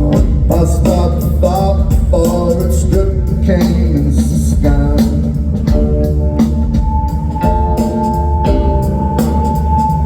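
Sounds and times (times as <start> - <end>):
live rock band playing: 0.0 - 10.0.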